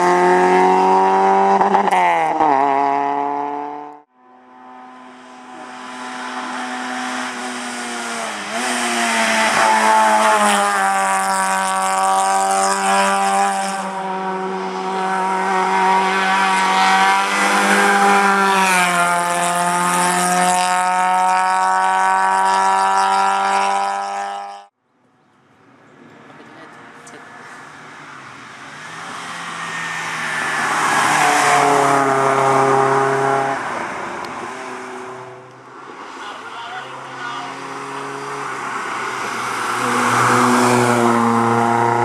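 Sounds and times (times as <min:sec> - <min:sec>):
racing car engine at high revs: 0:00.0 - 0:24.7, 0:26.6 - 0:42.0.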